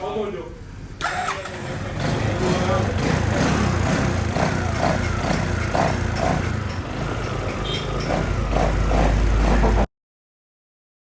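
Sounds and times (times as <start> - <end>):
scooter engine idling: 0.7 - 9.9.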